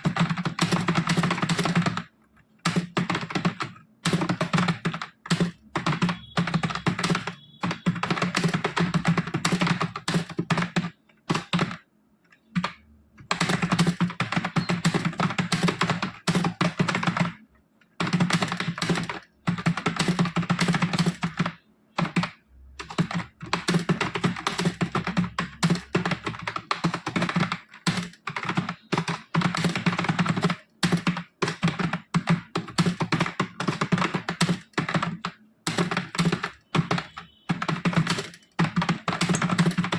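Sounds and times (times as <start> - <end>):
keyboard typing clicks: 0.0 - 39.9.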